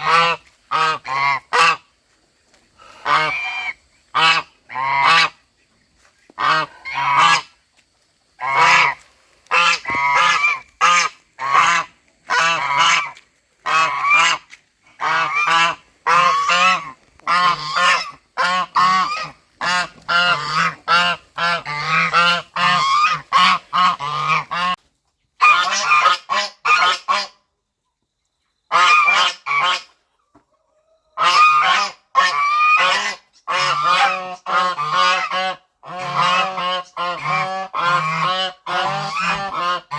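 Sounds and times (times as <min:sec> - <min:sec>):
goose honking: 0:00.0 - 0:01.9, 0:02.9 - 0:05.4, 0:06.4 - 0:07.6, 0:08.4 - 0:24.8, 0:25.4 - 0:27.4, 0:28.7 - 0:29.9, 0:31.2 - 0:39.9.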